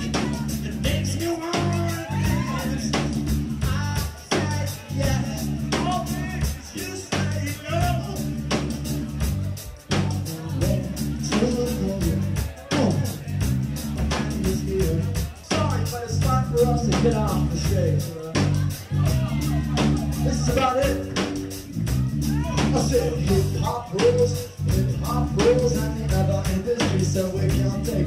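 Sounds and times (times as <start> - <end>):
song with drums and vocals: 0.0 - 28.0.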